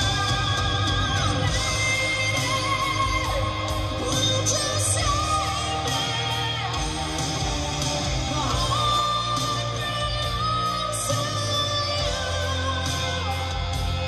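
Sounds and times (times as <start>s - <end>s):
drums: 0.0s - 14.0s
electric guitar: 0.0s - 14.0s
rock ballad through car speakers: 0.0s - 14.0s.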